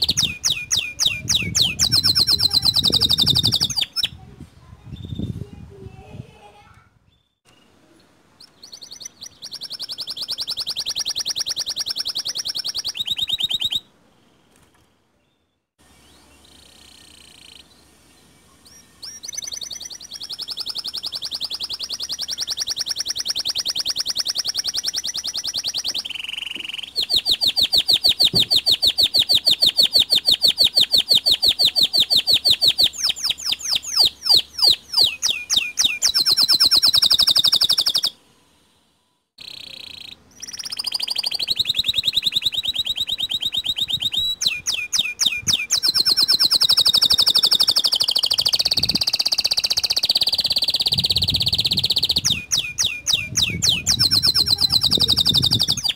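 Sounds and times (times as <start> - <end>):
canary singing trills: 0.0 - 5.4, 8.4 - 14.4, 15.9 - 38.6, 39.4 - 55.9.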